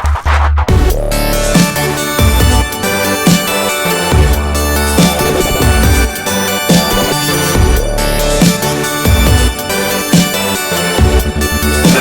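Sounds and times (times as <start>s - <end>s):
deep bass: 0.1s - 12.0s
sustained synth chords: 1.0s - 12.0s.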